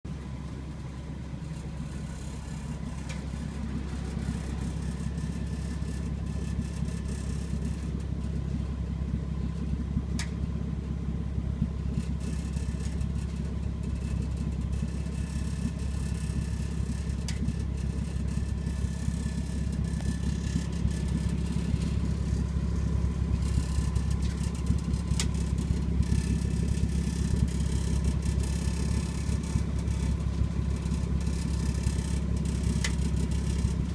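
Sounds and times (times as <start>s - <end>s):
car engine running: 0.0s - 33.9s
exhaust rattling: 0.1s - 33.9s.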